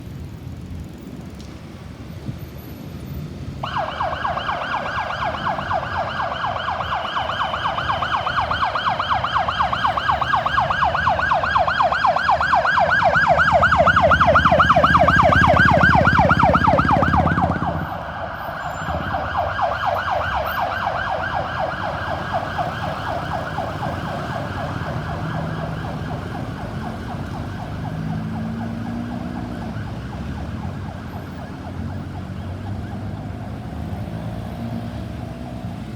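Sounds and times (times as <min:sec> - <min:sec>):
engine and road rumble: 0:00.0 - 0:35.9
ambulance siren yelping: 0:03.6 - 0:35.2.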